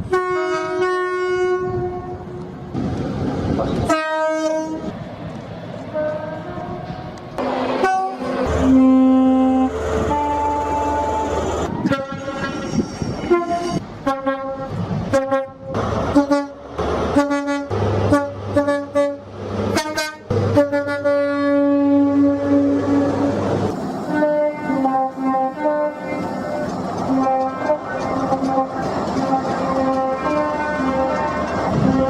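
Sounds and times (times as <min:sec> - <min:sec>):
train two-tone horn blasts: 0:00.0 - 0:02.4, 0:03.8 - 0:04.9, 0:05.9 - 0:23.4, 0:24.1 - 0:32.0.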